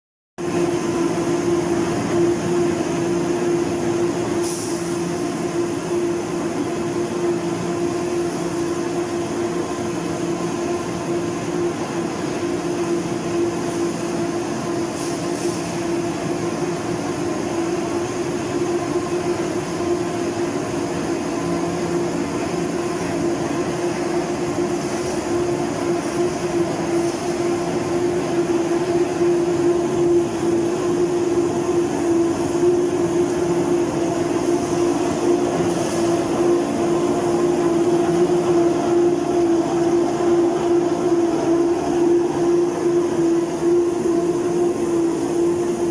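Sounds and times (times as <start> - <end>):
machinery hum: 0.4 - 45.9.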